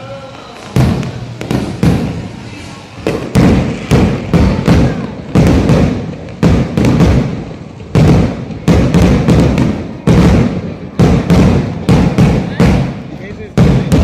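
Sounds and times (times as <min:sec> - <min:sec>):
fireworks bursting with booms: 0:00.0 - 0:14.0.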